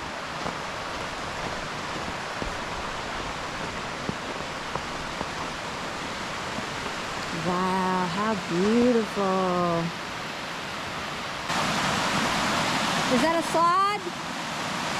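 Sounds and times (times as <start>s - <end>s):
creek water rushing over rocks: 0.0s - 14.9s.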